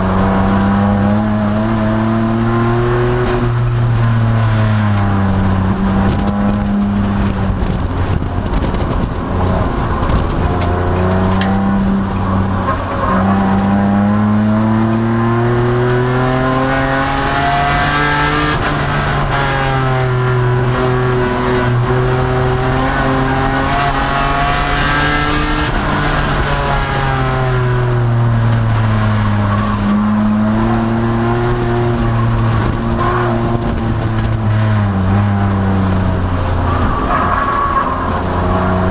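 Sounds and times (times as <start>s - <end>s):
car engine at racing speed: 0.0s - 38.9s.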